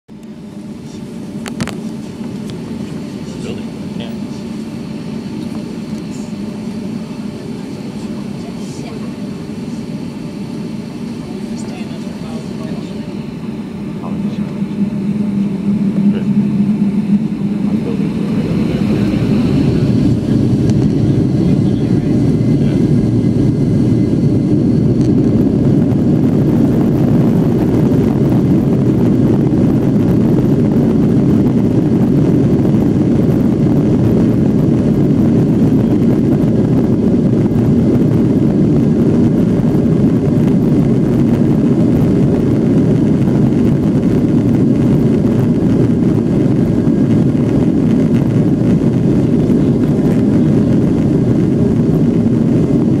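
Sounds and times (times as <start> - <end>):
jet engines rumbling: 0.1 - 53.0
faint high whine: 0.2 - 53.0.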